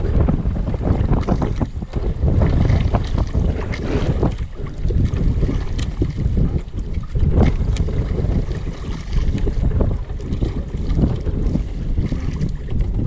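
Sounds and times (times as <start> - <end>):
water splashing against boat: 0.0 - 13.0
wind buffeting microphone: 0.0 - 13.0.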